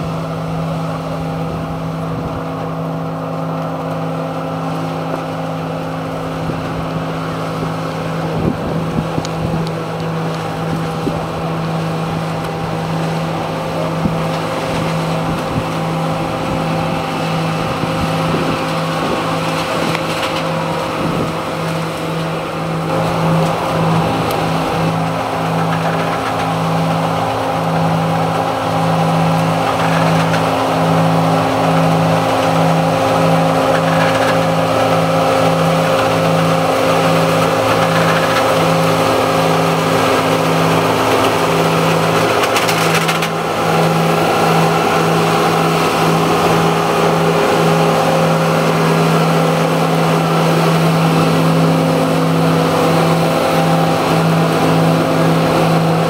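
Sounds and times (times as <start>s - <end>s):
harvester machine drone: 0.0s - 56.0s
pulsing low hum: 0.0s - 56.0s.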